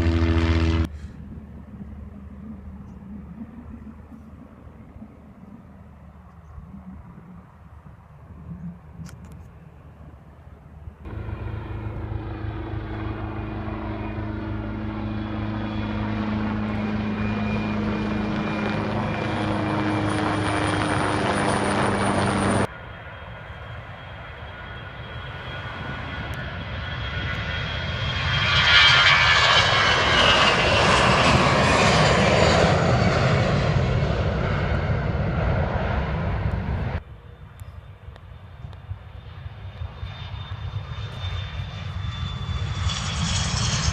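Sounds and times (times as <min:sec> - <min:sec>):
airliner engine drone with whine: 0:00.0 - 0:43.9
rushing jet engine noise: 0:00.0 - 0:43.9.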